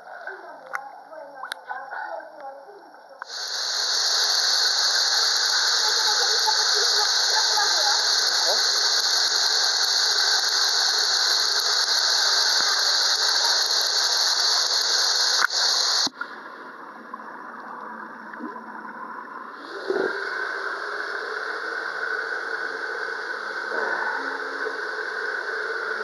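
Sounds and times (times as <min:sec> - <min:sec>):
muffled underwater sound: 0:00.0 - 0:26.0.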